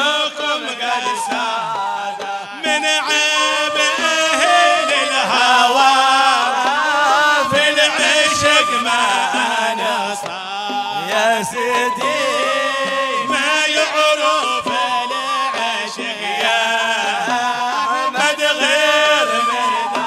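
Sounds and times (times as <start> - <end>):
men chanting religious song: 0.0 - 20.0.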